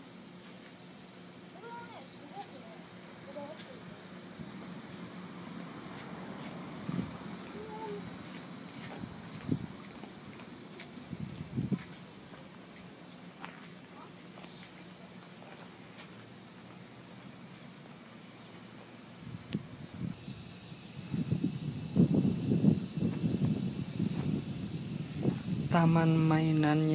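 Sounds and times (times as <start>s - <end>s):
insect chorus drone: 0.0s - 26.9s.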